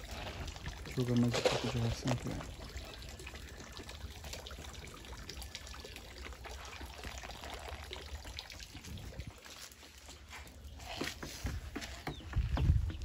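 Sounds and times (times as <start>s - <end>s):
fish popping and splashing: 0.0s - 11.6s
water trickling: 0.0s - 13.0s.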